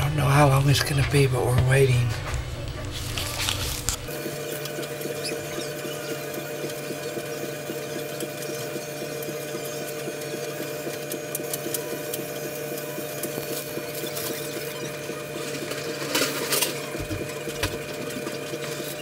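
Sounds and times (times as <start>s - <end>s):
laundry machine humming: 0.0s - 19.0s.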